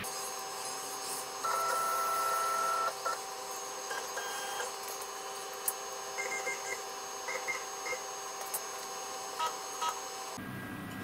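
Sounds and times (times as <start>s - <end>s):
stepper motors whining: 0.0s - 10.4s.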